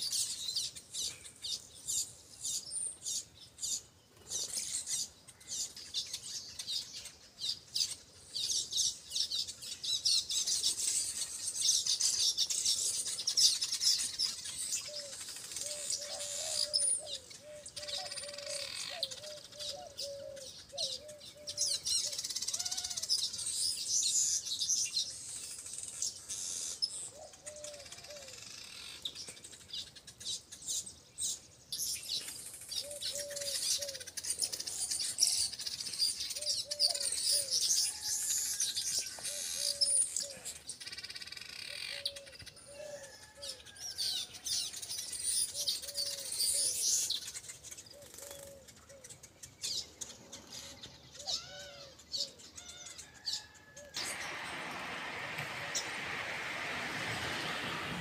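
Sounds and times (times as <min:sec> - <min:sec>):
weaver birds chattering and chirping: 0:00.0 - 0:57.9.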